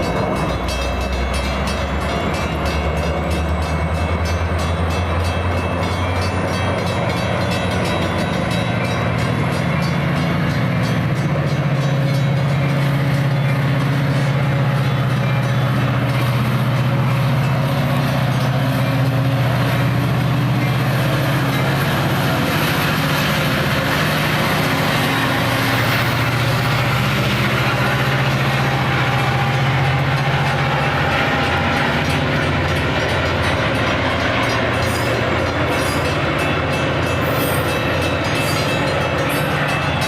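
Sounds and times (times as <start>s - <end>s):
diesel train engine hum: 0.0s - 40.0s
train wheel and rail noise: 0.0s - 40.0s
wheels clattering over rail joints: 0.0s - 40.0s.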